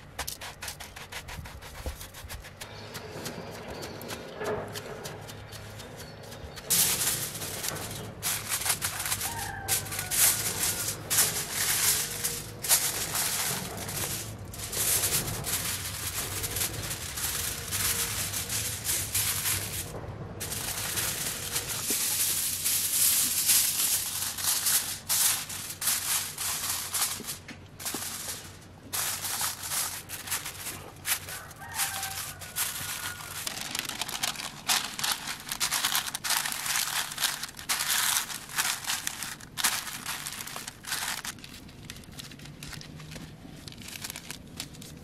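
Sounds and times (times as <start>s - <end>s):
aluminium foil crinkling: 0.0s - 45.0s.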